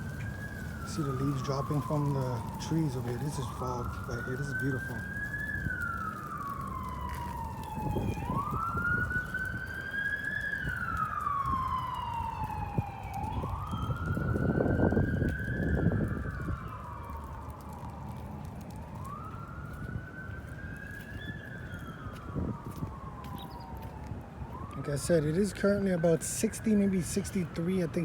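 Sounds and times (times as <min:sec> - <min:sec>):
emergency vehicle siren wailing: 0:00.0 - 0:28.0.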